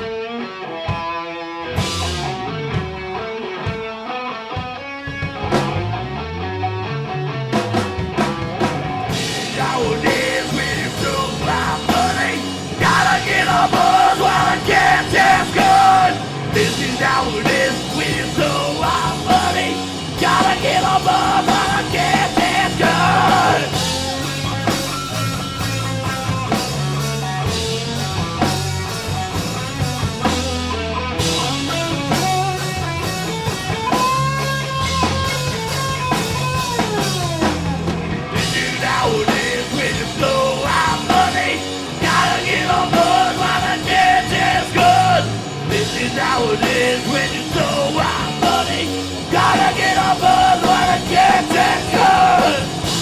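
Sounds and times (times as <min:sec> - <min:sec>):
bass guitar: 0:00.0 - 0:53.0
drums: 0:00.0 - 0:53.0
electric guitar: 0:00.0 - 0:53.0.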